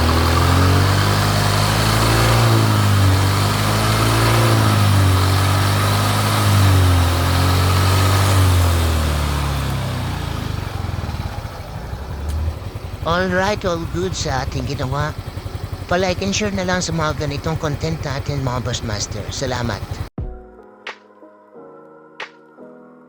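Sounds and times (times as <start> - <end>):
scooter engine revving: 0.0 - 20.1.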